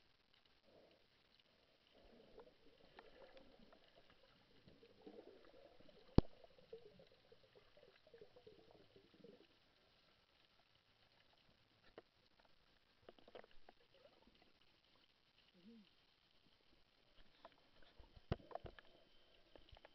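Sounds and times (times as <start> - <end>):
underwater bubbles gurgling: 0.0 - 19.9.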